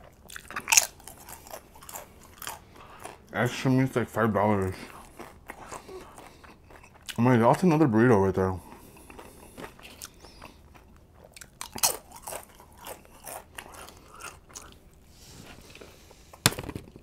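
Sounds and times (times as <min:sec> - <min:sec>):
close chewing: 0:00.0 - 0:15.0.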